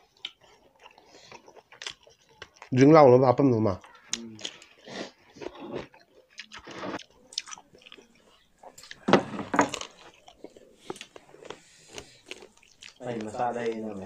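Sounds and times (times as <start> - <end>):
people chewing and biting: 0.0 - 3.0, 3.7 - 14.0.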